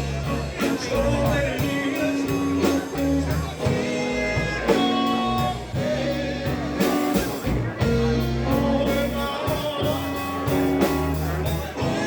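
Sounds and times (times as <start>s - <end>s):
blues band playing: 0.0s - 12.0s
electric guitar melody: 0.0s - 12.0s.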